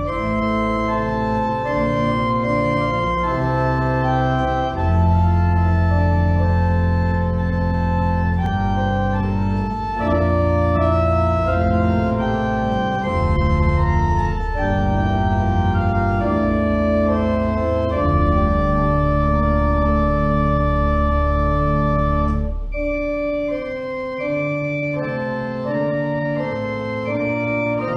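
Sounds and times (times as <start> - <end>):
organ playing held chords: 0.0 - 27.9.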